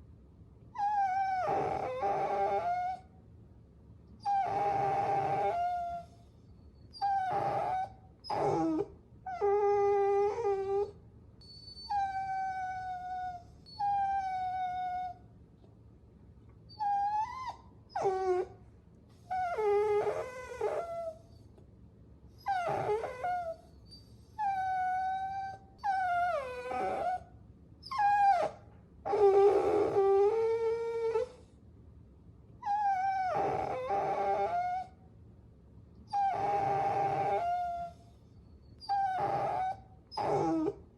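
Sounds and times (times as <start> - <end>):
puppies whining: 0.8 - 3.0, 4.2 - 15.2, 16.7 - 18.6, 19.2 - 21.4, 22.4 - 31.4, 32.6 - 35.0, 36.1 - 40.9.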